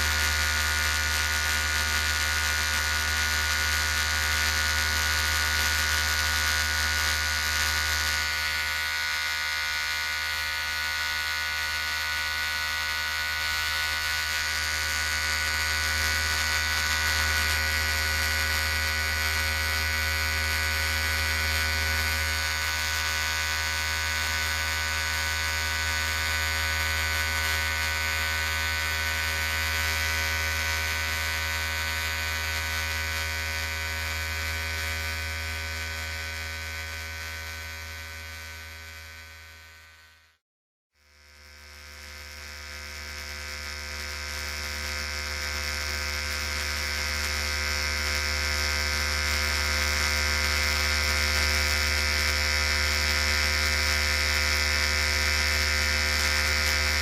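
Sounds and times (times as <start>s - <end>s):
electric hair clippers buzzing: 0.0s - 40.4s, 41.0s - 57.0s.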